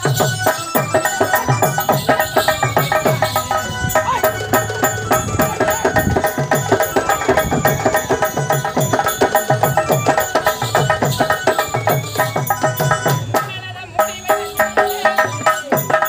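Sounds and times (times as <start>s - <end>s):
fast driving drum beats: 0.0s - 16.0s
keyboard melody: 0.0s - 16.0s.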